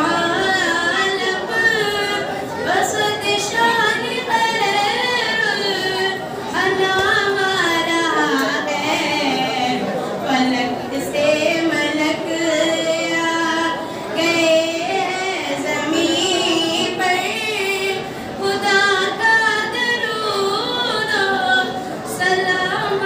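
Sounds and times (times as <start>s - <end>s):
woman singing unaccompanied: 0.0s - 23.0s.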